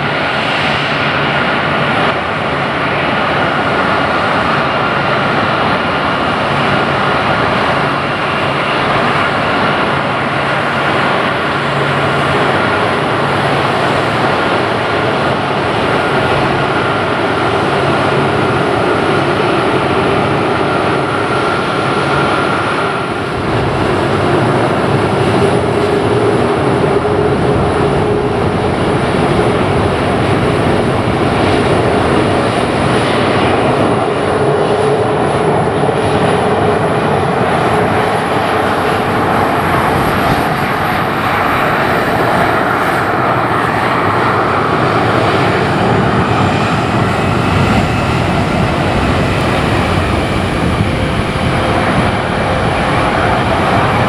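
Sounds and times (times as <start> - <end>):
high jet engine whine: 0.0 - 54.0
jet engines running: 0.0 - 54.0.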